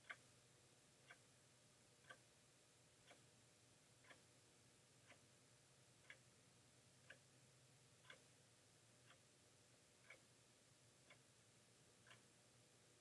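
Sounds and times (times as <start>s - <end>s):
clock ticking: 0.0s - 1.4s, 2.0s - 13.0s.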